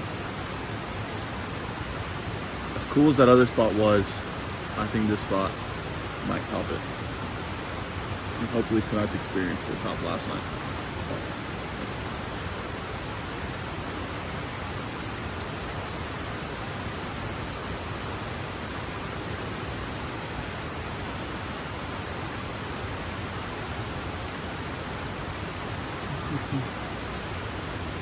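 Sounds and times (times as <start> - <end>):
creek flowing: 0.0 - 28.0.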